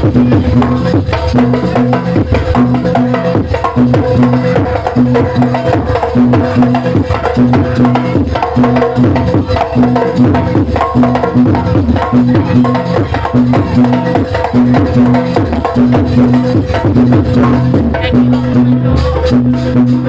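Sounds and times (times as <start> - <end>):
drums and tuned gongs playing: 0.0 - 20.0.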